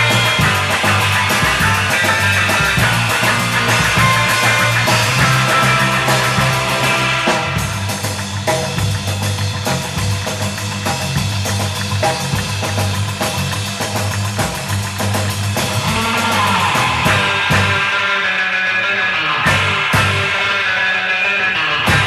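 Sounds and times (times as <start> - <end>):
up-tempo rock music: 0.0 - 22.0.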